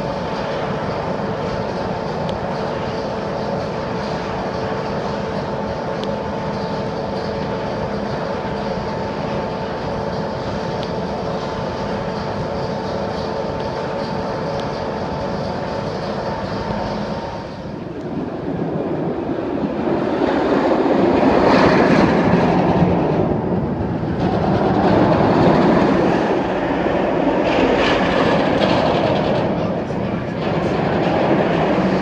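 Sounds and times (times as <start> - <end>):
roller coaster rumbling roar: 0.0 - 32.0.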